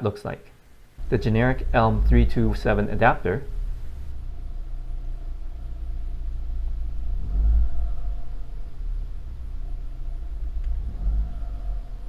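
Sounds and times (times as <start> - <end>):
car engine idling and revving: 1.0 - 12.0.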